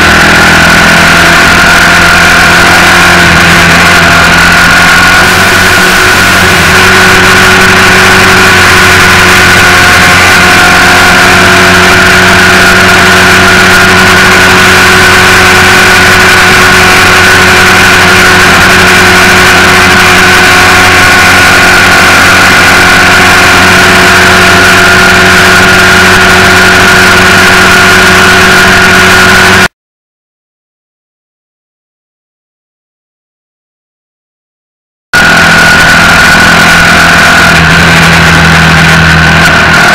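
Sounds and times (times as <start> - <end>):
motorcycle engine cruising: 0.0 - 29.7, 35.2 - 39.9.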